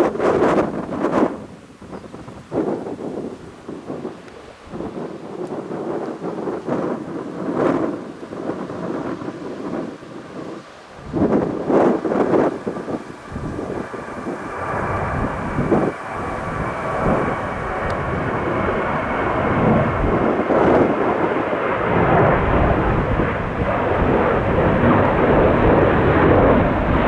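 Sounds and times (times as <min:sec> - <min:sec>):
aircraft engines approaching: 0:00.0 - 0:27.0
wind buffeting microphone: 0:00.0 - 0:27.0.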